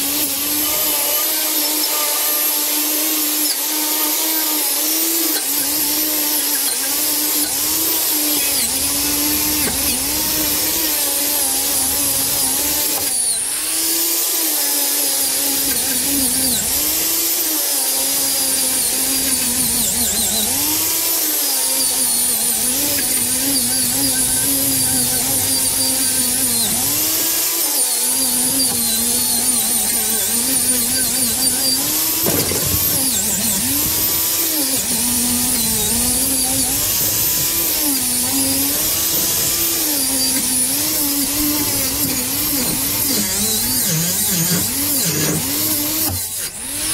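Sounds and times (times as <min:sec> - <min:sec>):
angle grinder on metal: 0:00.0 - 0:46.9.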